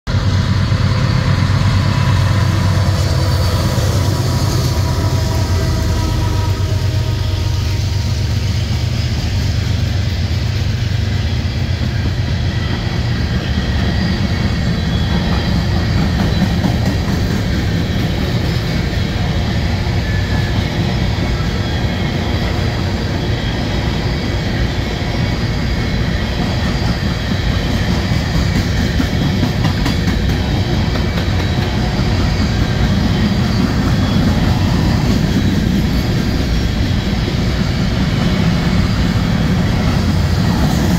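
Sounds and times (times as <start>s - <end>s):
freight train wheels rumbling: 0.1s - 40.9s
wheel squeal: 0.7s - 11.5s, 12.4s - 40.9s.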